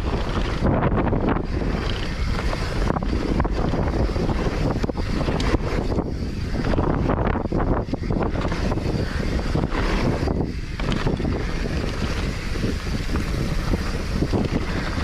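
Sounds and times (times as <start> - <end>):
bike knocks and rattles: 0.0 - 15.0
bike tyre noise: 0.0 - 15.0
wind buffeting microphone: 0.0 - 15.0.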